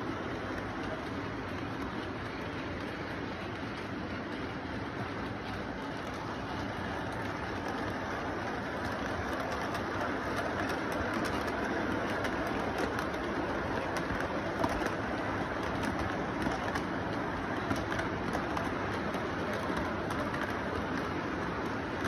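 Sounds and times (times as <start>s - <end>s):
model train rolling on track: 0.0s - 22.0s.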